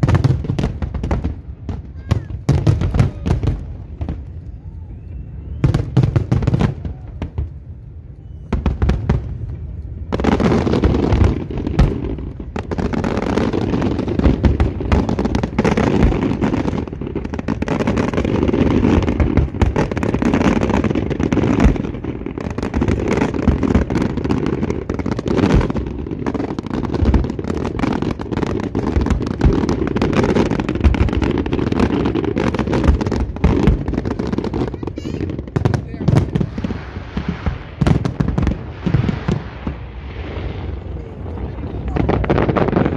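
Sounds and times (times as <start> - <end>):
fireworks bursting with crackle: 0.0 - 42.9.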